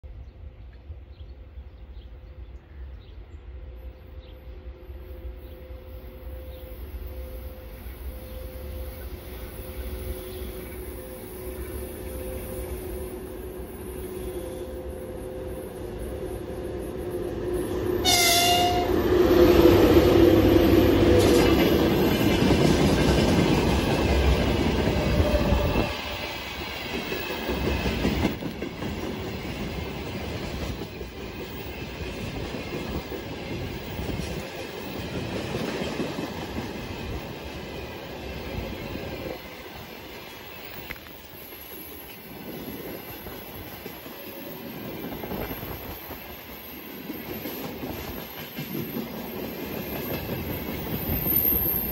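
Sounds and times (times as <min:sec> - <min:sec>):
electric locomotive whine and rumble: 0:00.1 - 0:51.9.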